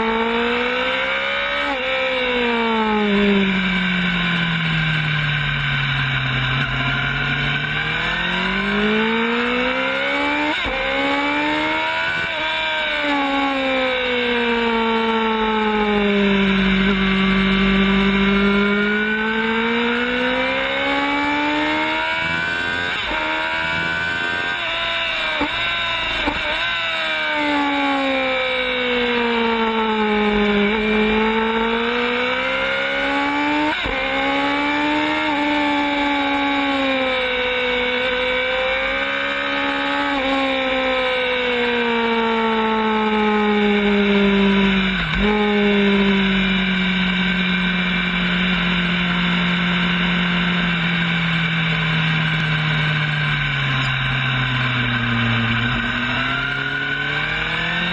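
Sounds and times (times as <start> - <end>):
racing motorcycle engine: 0.0 - 57.9.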